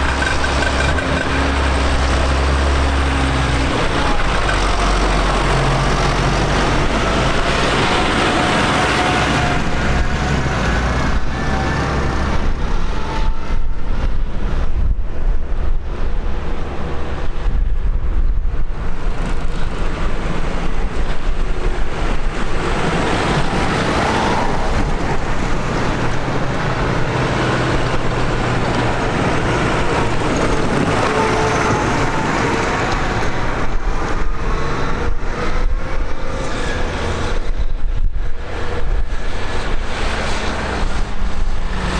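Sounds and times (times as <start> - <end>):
tractor engines running: 0.0 - 41.9
tyre and road noise: 0.0 - 41.9.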